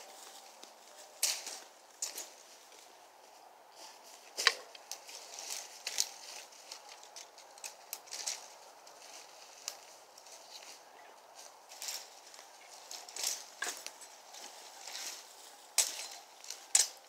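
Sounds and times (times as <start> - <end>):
dry twigs cracking and rustling: 0.0 - 17.0.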